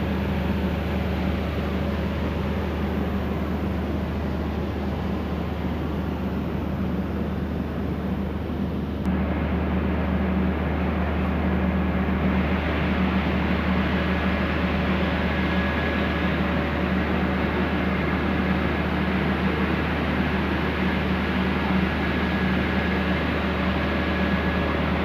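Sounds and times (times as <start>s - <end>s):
diesel locomotive engine humming: 0.0s - 25.0s.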